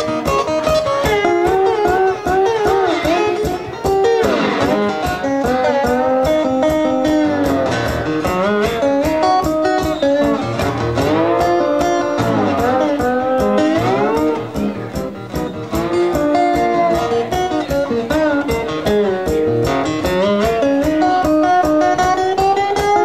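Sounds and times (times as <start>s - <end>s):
acoustic slide guitar blues: 0.0s - 23.0s.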